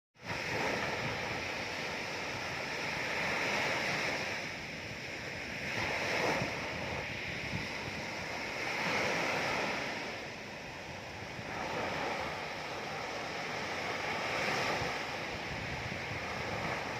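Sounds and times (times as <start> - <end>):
ocean waves breaking: 0.2 - 16.9.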